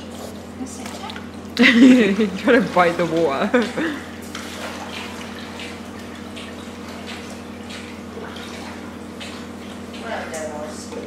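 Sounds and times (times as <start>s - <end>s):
water splashing as dog swims: 0.0s - 10.7s
pool pump hum: 0.0s - 11.0s.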